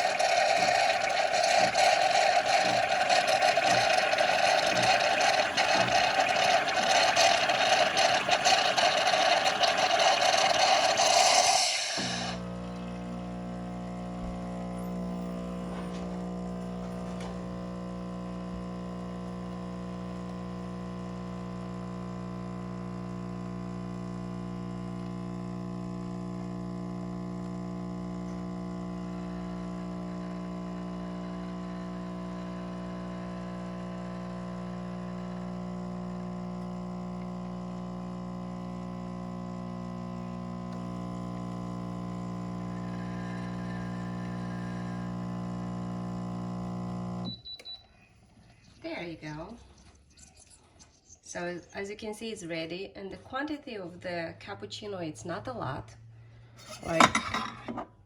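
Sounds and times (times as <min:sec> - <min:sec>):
espresso machine pump humming: 0:00.0 - 0:47.4, 0:56.6 - 0:57.6.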